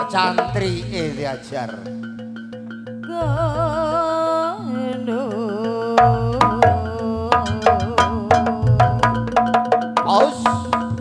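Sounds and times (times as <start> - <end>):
drum strokes: 0.0 - 11.0
pitched metal percussion: 0.0 - 11.0
wavering held melody: 0.0 - 11.0.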